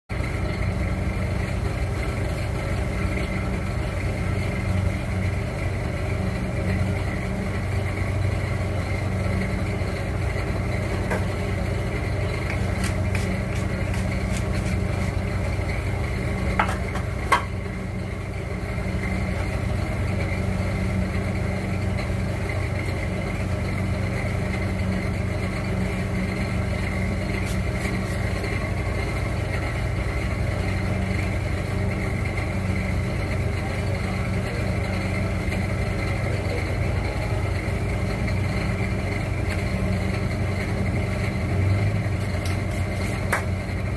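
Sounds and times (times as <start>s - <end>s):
low machine hum: 0.1s - 43.9s.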